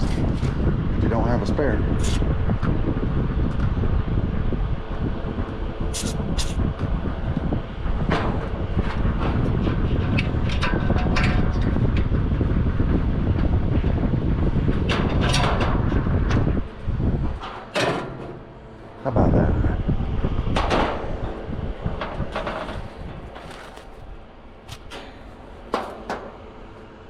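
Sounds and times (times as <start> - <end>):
steady low rumble: 0.0 - 17.5, 18.6 - 27.0.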